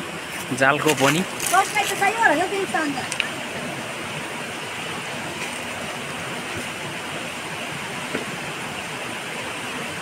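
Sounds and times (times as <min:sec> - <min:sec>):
stream rushing over rocks: 0:00.0 - 0:10.0.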